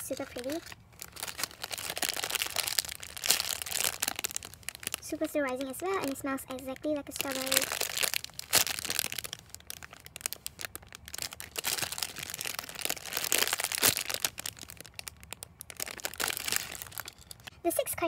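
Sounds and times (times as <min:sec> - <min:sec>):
plastic bag crinkling: 0:00.0 - 0:17.5.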